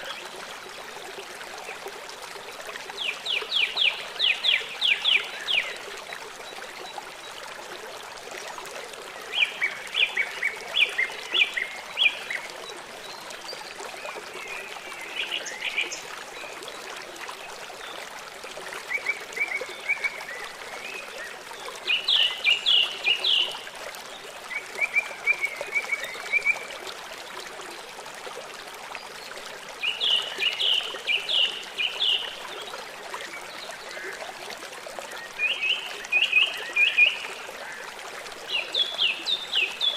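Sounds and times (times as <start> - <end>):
trickle of running water: 0.0 - 39.9.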